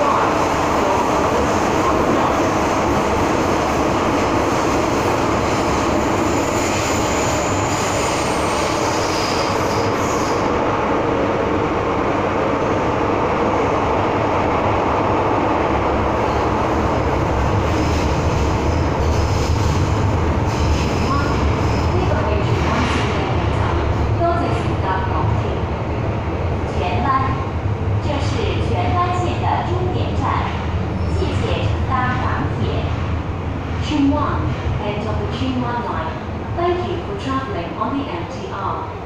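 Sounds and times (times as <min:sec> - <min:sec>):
train wheel-on-rail rumble: 0:00.0 - 0:39.0.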